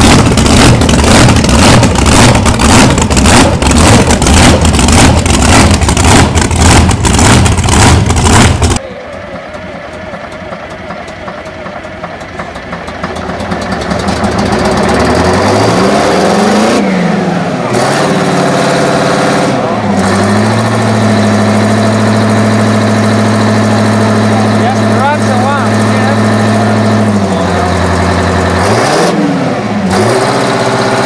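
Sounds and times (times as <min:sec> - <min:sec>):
loud choppy engine exhaust: 0:00.0 - 0:31.0
tractor diesel engine: 0:00.0 - 0:31.0.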